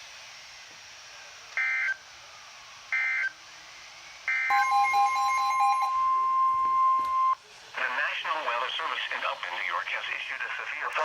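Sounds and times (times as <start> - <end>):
faint radio hiss: 0.0 - 4.8, 5.8 - 11.0.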